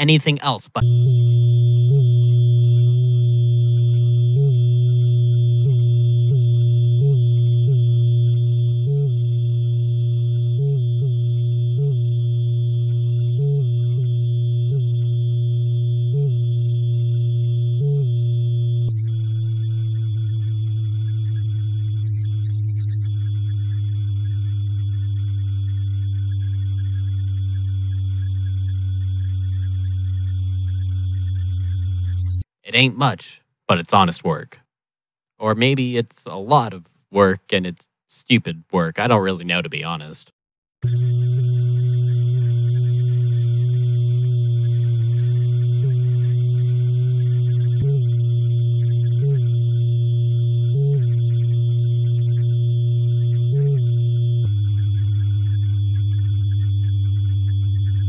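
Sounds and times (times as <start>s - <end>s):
distorted buzzing hum with hiss: 0.0s - 32.9s, 40.8s - 58.0s.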